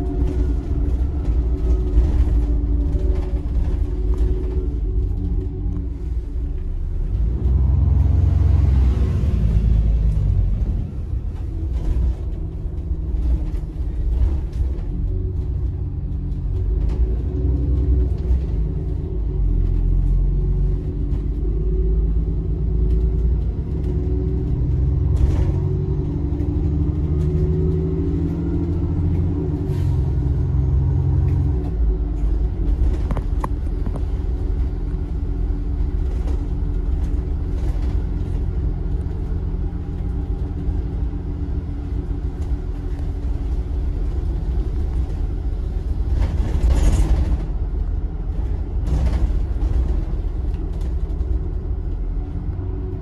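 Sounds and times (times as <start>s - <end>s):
bus body rattles: 0.0s - 8.5s, 9.2s - 53.0s
bus engine: 0.0s - 53.0s
road rumble: 0.0s - 53.0s.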